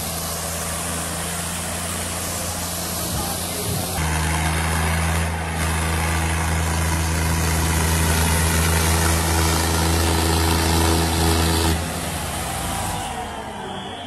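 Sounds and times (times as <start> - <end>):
diesel tractor engine running hard: 0.0 - 14.0.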